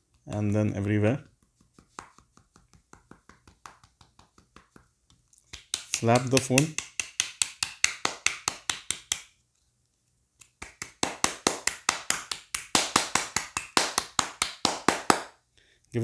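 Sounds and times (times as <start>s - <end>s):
fingers slapping a smartphone: 0.0s - 9.4s, 10.4s - 15.4s.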